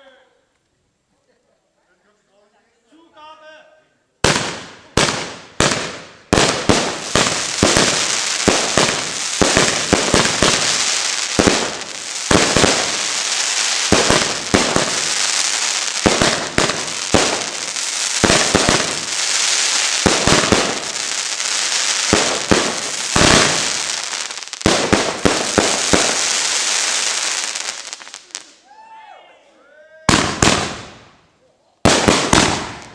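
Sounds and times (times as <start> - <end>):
fireworks bangs: 4.2 - 28.6, 30.1 - 31.2, 31.8 - 32.9
fireworks crackling: 4.2 - 28.6, 30.1 - 31.2, 31.8 - 32.9.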